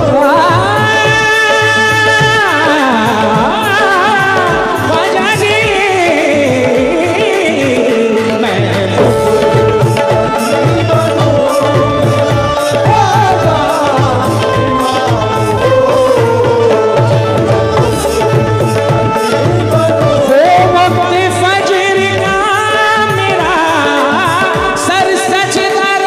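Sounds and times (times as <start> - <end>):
harmonium melody: 0.0 - 26.0
tabla beat: 0.0 - 26.0
electronic keyboard melody: 3.4 - 26.0.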